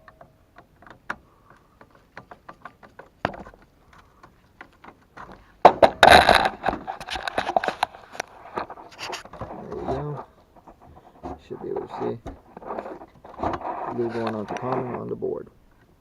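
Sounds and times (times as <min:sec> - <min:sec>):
rustling and scraping: 0:00.0 - 0:15.9.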